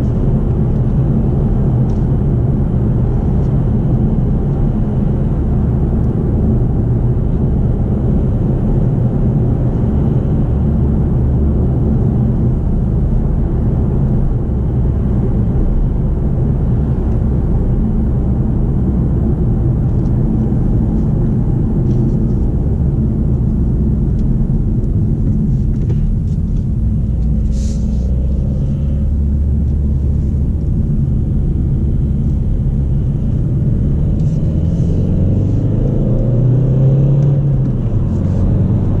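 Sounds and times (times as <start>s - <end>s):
in-cabin diesel engine drone: 0.0s - 39.0s
road noise: 0.0s - 39.0s.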